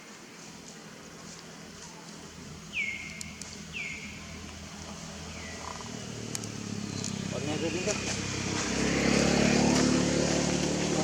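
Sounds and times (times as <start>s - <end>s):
low outdoor background: 0.0s - 11.0s.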